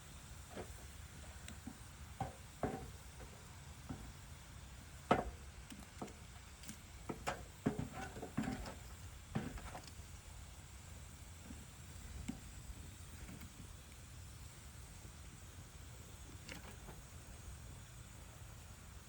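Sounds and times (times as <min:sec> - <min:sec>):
fire hissing: 0:00.0 - 0:19.0.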